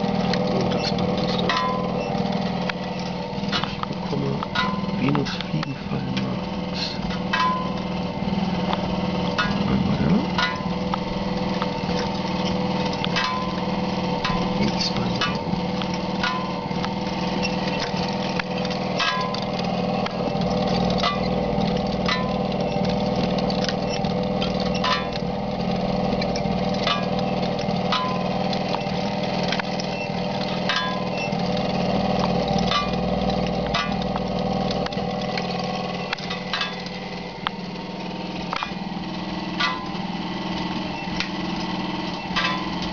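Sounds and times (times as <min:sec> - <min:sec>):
electric motor humming: 0:00.0 - 0:42.9.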